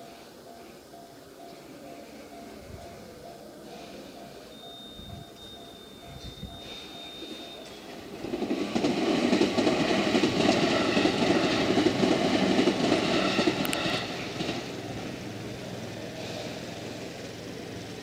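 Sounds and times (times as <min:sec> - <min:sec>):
electric train running past: 0:00.0 - 0:18.0.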